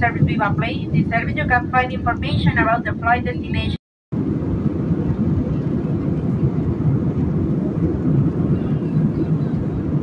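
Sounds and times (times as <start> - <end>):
jet airliner cabin noise: 0.0 - 10.0.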